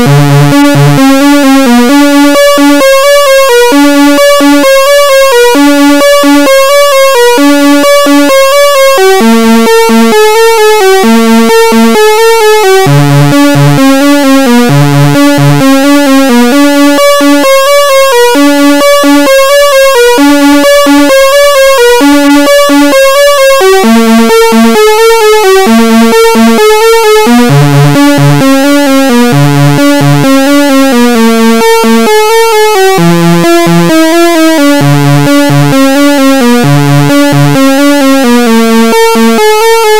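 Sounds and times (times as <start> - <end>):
synthesizer sequenced pattern: 0.0 - 39.9.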